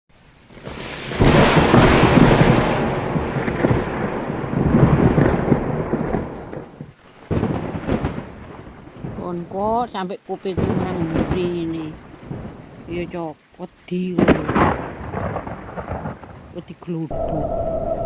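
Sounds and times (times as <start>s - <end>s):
thunder clap and rumble: 0.5s - 13.4s, 14.2s - 18.0s.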